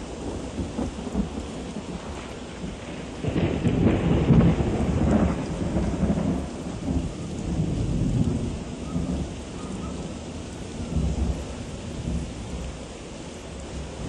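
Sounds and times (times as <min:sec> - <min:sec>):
rain: 0:00.0 - 0:14.0
wind rumbling on microphone: 0:00.0 - 0:14.0.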